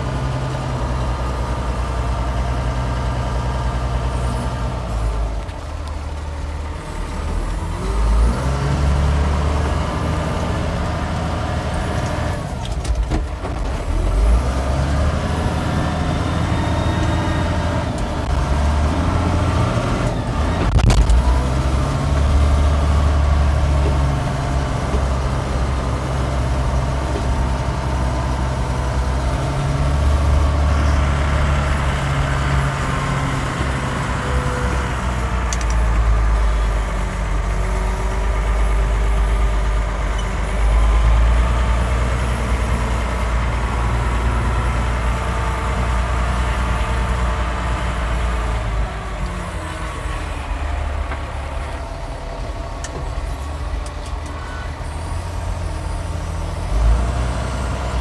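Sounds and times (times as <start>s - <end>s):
tractor diesel engine rumbling: 0.0s - 58.0s.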